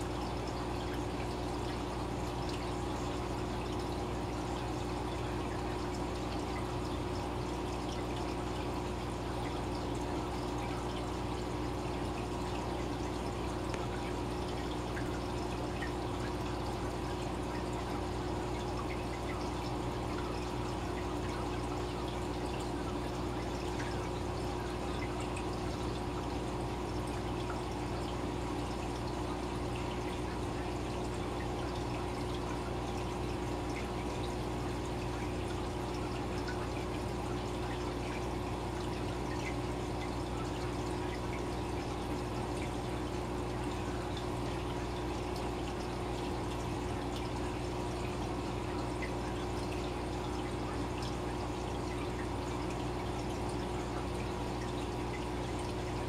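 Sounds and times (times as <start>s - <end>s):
aquarium water bubbling: 0.0s - 56.0s.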